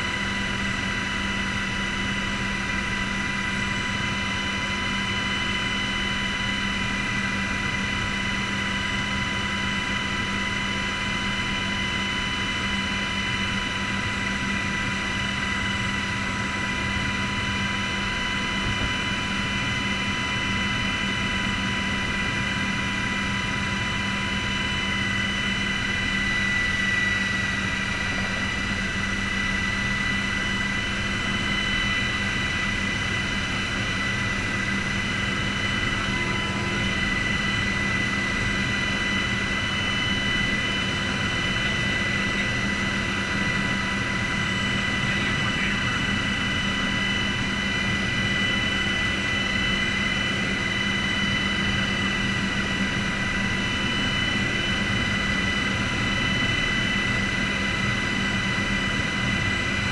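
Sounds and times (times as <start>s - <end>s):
helicopter rotor drone: 0.0s - 59.9s
helicopter turbine whine: 0.0s - 59.9s.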